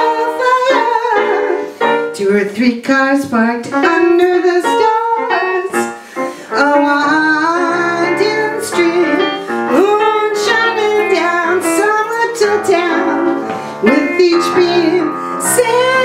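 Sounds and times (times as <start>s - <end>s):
woman singing slow song: 0.0s - 5.9s, 6.5s - 16.0s
piano chords: 0.0s - 16.0s.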